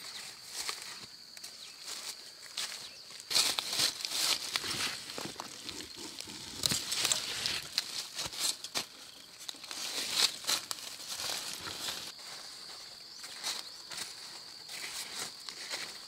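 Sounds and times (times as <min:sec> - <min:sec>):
leaves rustling and crackling: 0:00.0 - 0:16.0.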